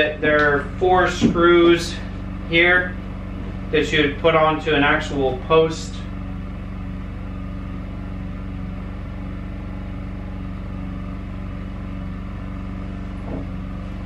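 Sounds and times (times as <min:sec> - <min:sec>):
steady low electrical hum: 0:00.0 - 0:14.0.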